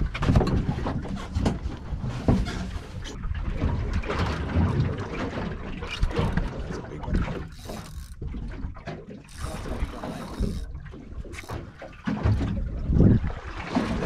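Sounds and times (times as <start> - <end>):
knocks and thumps from boat: 0.0 - 14.0
wind and water against hull: 0.0 - 14.0.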